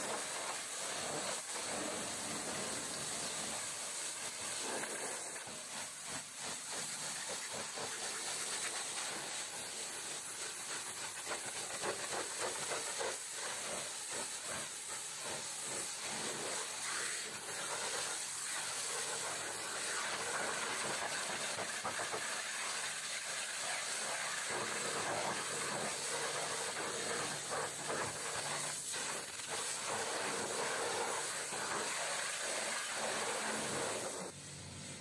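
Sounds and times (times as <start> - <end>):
pressure washer jet hissing: 0.0 - 35.0.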